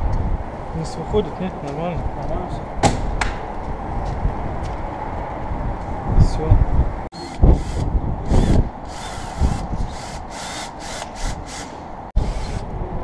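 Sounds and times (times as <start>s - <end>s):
gusting wind buffeting microphone: 0.0s - 13.0s.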